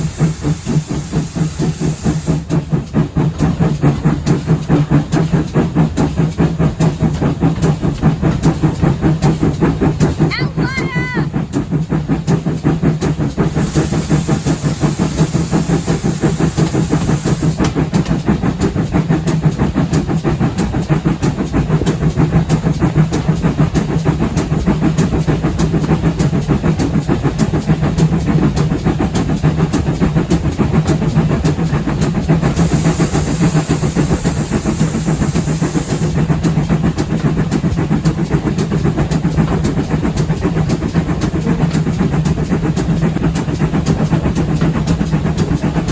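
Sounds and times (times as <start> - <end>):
high steam hissing: 0.0 - 45.9
rapid rail clatter: 0.0 - 45.9
steam train rumbling: 0.0 - 45.9.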